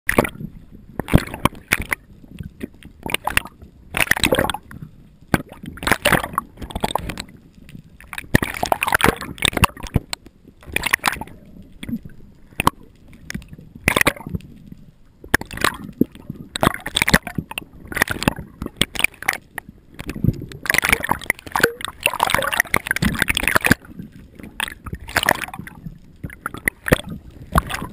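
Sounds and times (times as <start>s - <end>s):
muffled water sloshing and gurgling: 0.1s - 27.9s.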